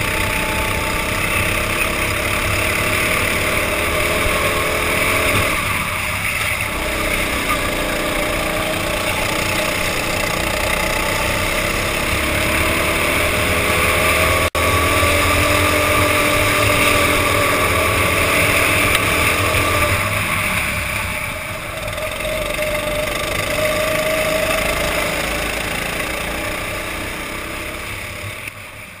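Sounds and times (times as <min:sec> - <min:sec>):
go-kart engines racing: 0:00.0 - 0:29.0.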